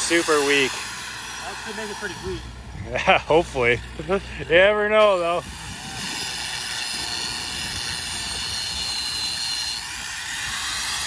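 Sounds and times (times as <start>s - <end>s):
angle grinder grinding rubber: 0.0s - 11.0s.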